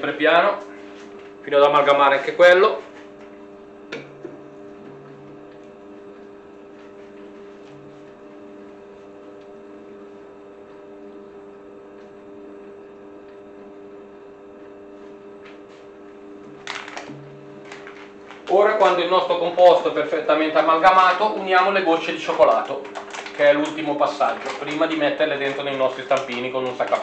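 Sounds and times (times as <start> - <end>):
stand mixer motor hum: 0.0 - 27.0.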